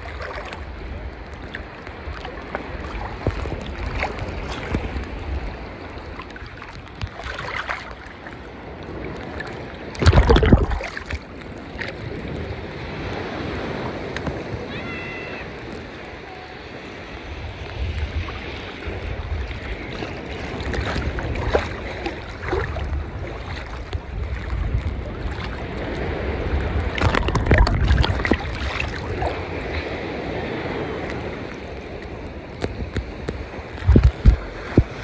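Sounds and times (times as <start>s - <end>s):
sea waves splashing: 0.0s - 35.0s
water gurgling: 0.0s - 35.0s.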